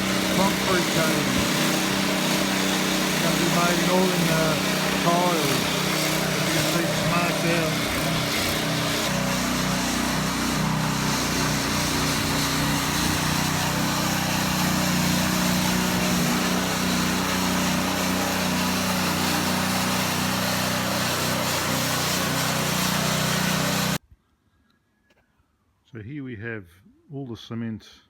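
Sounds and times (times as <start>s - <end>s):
small petrol engine running: 0.0s - 24.0s.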